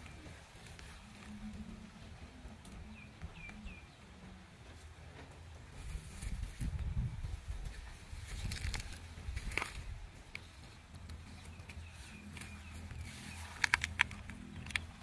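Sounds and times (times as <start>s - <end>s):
dry grass rustling and crackling: 0.0s - 15.0s
steady low rumble: 0.0s - 15.0s.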